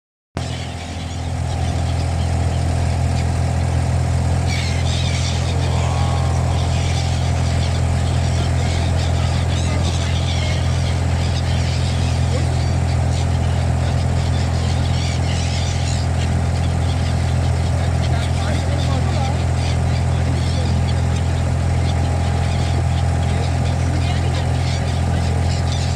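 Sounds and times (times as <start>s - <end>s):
birds chirping: 0.4s - 25.9s
low engine hum: 0.4s - 25.9s.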